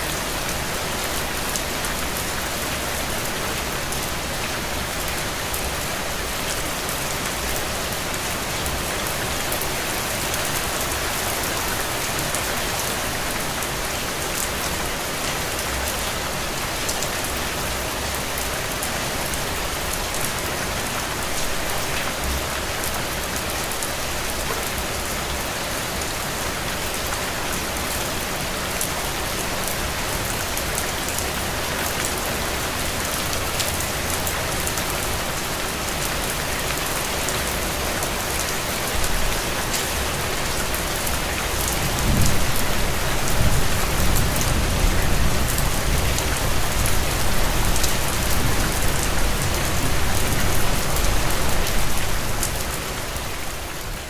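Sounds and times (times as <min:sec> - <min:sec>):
rain on a window pane: 0:00.1 - 0:54.0.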